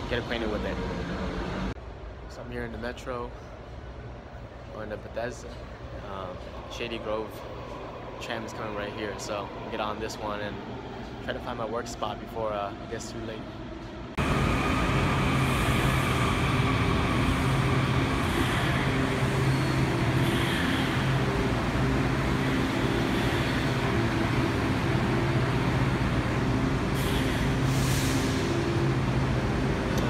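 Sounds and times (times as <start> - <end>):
train rumbling: 0.0 - 2.1, 5.3 - 30.0.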